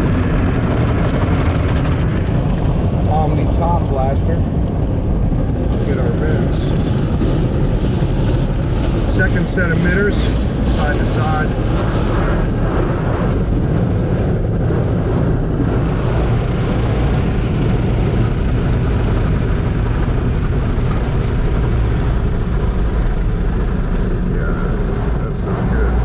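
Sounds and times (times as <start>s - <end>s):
steady low rumble: 0.0s - 26.0s
water spraying on car: 0.1s - 26.0s.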